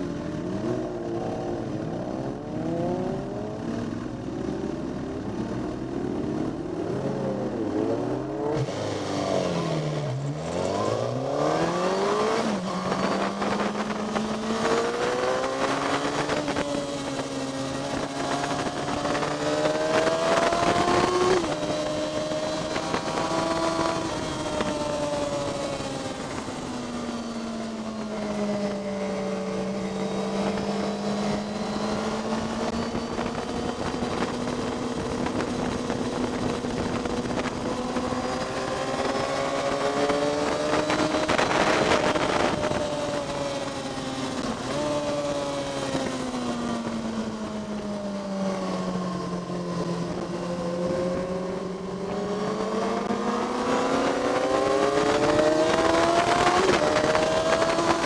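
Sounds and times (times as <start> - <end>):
motorcycle engine racing: 0.0 - 58.0
wind noise: 0.0 - 58.0.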